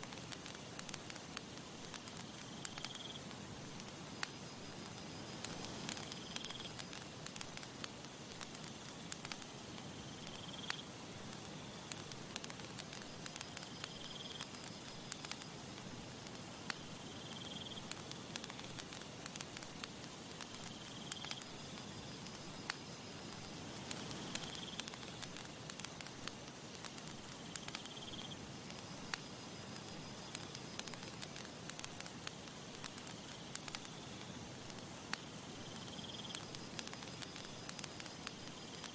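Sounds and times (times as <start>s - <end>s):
campfire crackling and popping: 0.0s - 38.9s
soft even hiss: 0.0s - 38.9s.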